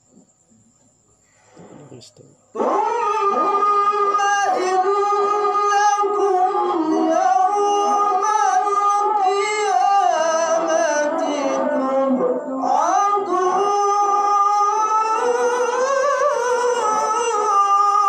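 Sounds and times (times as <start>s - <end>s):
person reciting melodically: 1.7s - 18.0s.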